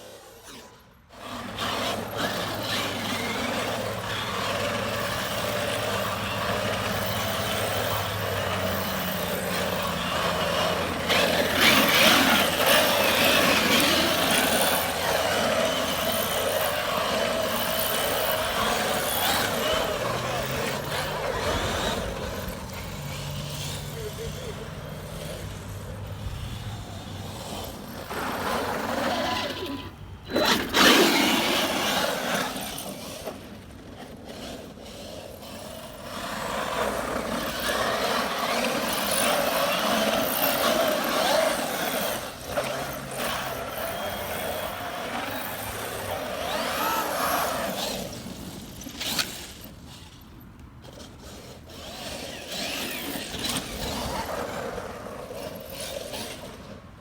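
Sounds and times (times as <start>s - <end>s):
electric motor whine: 0.0s - 33.3s, 35.4s - 48.3s
tyres scrabbling on dirt: 0.4s - 56.9s.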